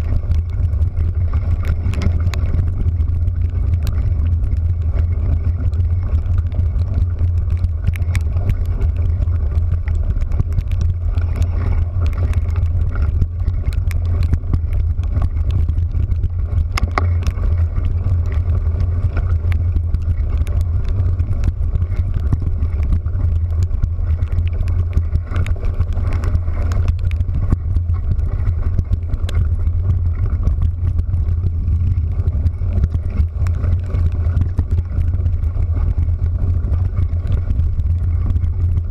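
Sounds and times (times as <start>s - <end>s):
small irregular ticks: 0.0s - 38.9s
vehicle engine drone: 0.0s - 38.9s.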